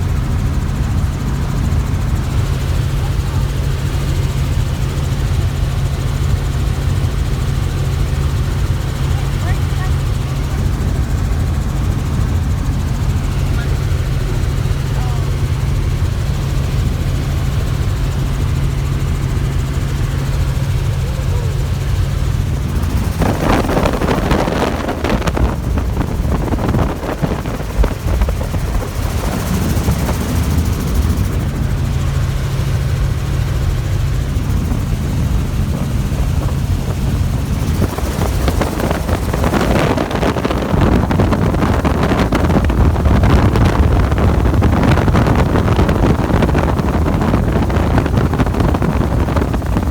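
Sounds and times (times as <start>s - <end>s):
helicopter rotor drone: 0.0s - 49.9s.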